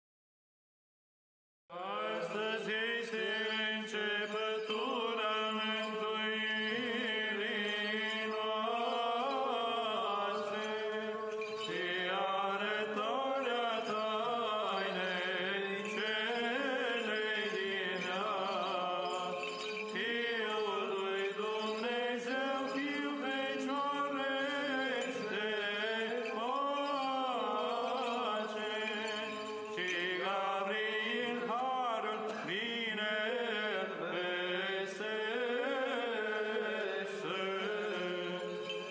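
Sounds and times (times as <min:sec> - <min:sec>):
chanted singing: 0:01.7 - 0:38.9.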